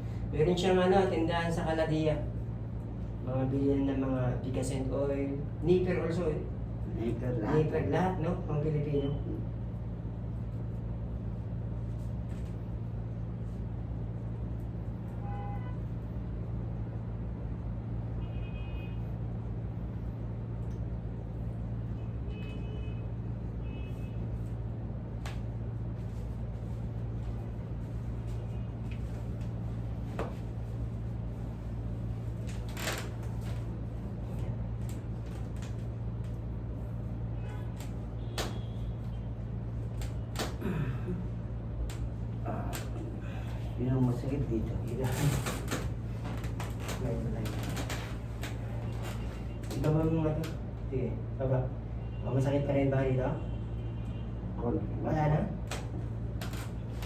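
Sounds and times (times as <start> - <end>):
low room hum: 0.0 - 57.0.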